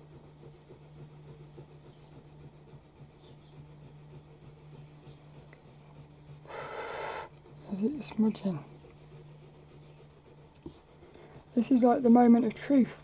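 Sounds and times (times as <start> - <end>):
eraser rubbing on paper: 0.0 - 13.0.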